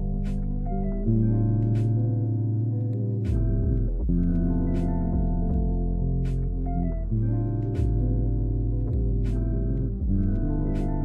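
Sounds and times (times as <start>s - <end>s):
background music with chords: 0.0s - 11.0s
hi-hat ticks: 1.3s - 11.0s.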